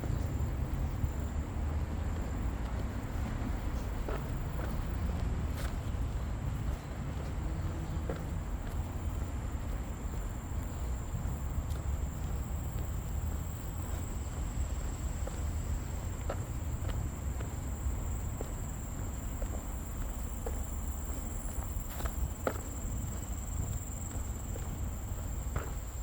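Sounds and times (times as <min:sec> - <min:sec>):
footsteps on a trail: 0:00.0 - 0:26.0
insects droning: 0:00.0 - 0:26.0.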